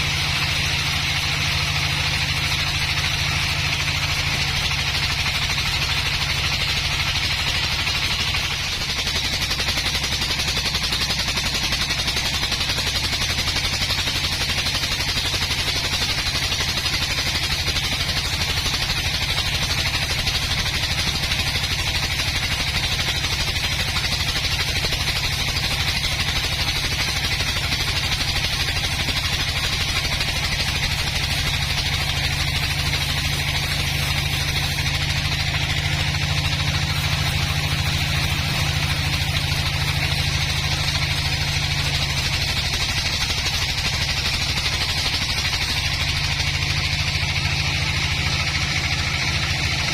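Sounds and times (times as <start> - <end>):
engine chugging steadily: 0.0 - 49.9
hiss: 0.0 - 49.9.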